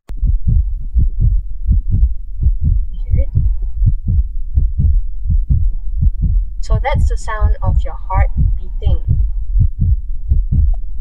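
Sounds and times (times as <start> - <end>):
heartbeat thumps: 0.1 - 11.0.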